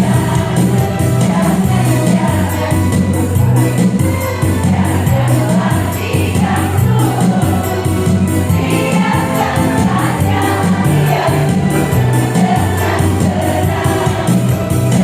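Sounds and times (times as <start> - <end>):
instrumental accompaniment with beat: 0.0 - 15.0
women's choir singing: 0.0 - 15.0.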